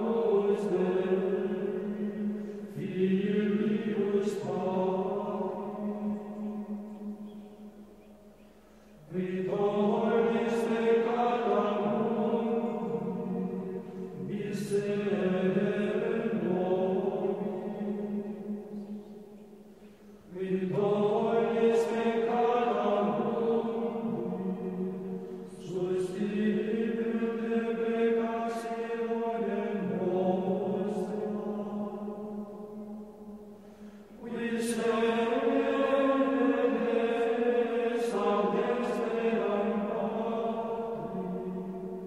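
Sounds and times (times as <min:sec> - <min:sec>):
slow vocal chant: 0:00.0 - 0:42.0.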